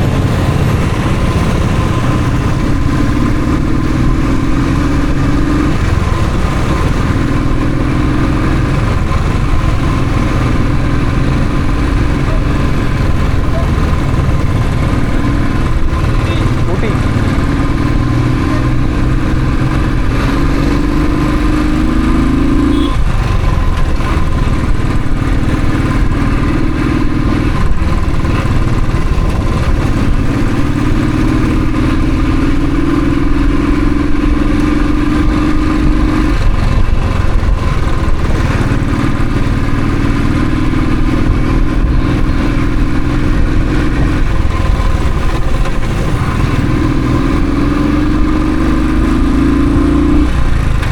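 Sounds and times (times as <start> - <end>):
motorcycle engine shifting gears: 0.0 - 50.9.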